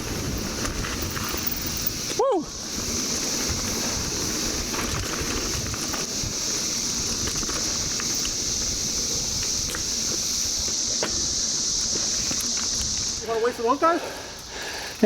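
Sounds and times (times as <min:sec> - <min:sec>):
wind rumble: 0:00.0 - 0:13.7
cicadas droning: 0:00.0 - 0:15.0
mountain bike trail noise: 0:00.0 - 0:15.0.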